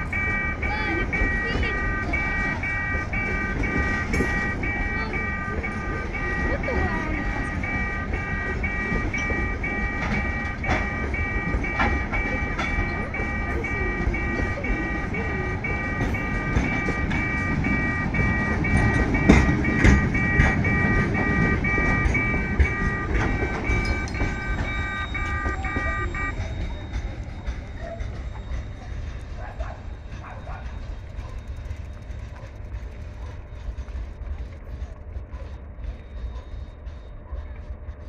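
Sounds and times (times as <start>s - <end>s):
freight train rolling past: 0.0s - 38.0s
level crossing warning bell: 0.0s - 38.0s.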